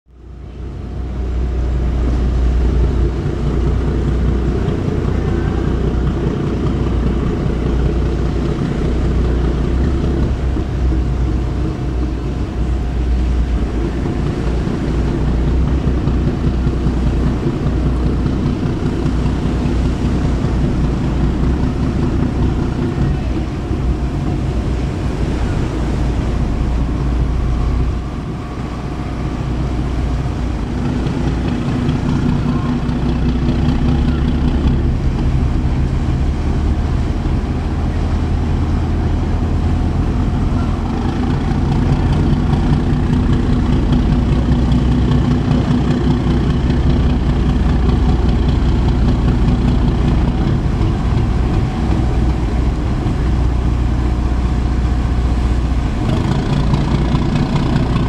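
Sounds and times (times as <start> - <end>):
boat engines rumbling: 0.0 - 58.0.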